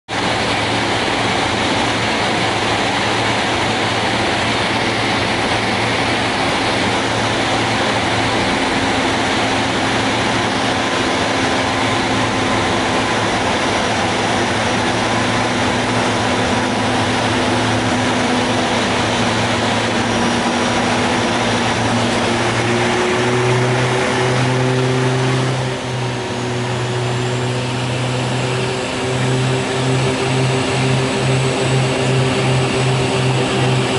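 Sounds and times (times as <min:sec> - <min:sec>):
propeller hum: 0:00.1 - 0:33.9
turboprop engines droning: 0:00.1 - 0:33.9
steady tone: 0:04.3 - 0:33.9.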